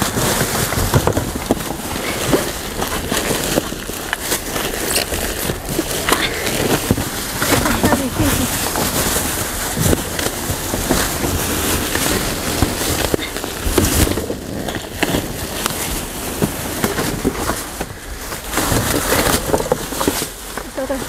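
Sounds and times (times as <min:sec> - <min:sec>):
cardboard and trash rustling: 0:00.0 - 0:21.0.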